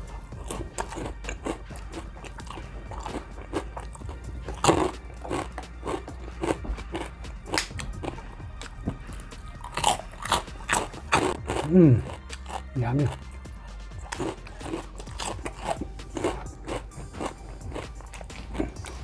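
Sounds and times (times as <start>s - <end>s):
wet chewing and lip-smacking: 0.0s - 19.0s.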